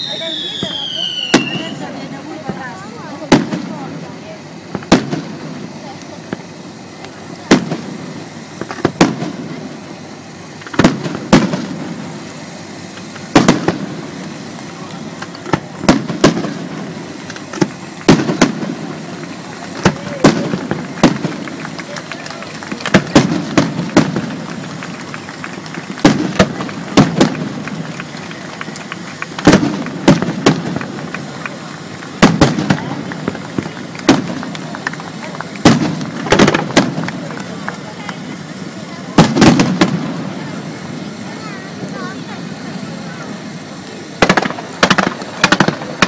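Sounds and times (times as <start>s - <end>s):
firework shells bursting: 0.0s - 46.0s
steady hiss: 0.0s - 46.0s.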